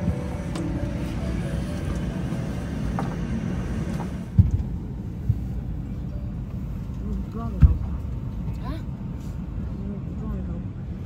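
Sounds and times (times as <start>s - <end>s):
airplane cabin low rumble: 0.0s - 11.0s.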